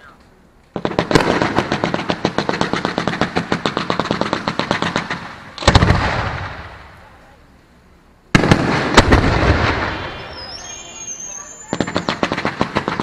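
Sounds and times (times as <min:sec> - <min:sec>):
fireworks barrage sharp cracks: 0:00.0 - 0:07.6, 0:08.2 - 0:13.0
deeper firework bangs: 0:00.7 - 0:07.2, 0:08.3 - 0:13.0.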